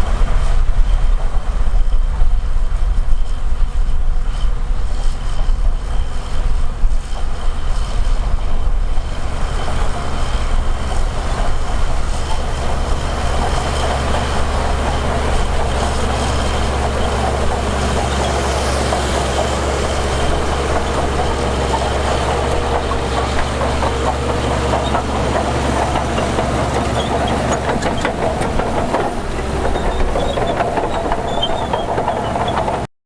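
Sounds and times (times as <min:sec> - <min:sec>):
heavy diesel machinery running: 0:00.0 - 0:32.9.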